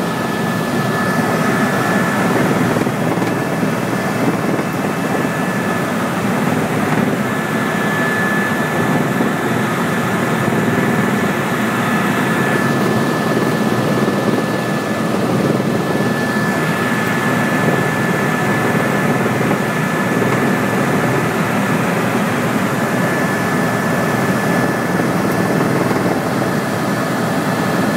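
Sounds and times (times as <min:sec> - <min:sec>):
helicopter engine and rotor noise: 0:00.0 - 0:27.9
thin steady whine: 0:00.0 - 0:27.9.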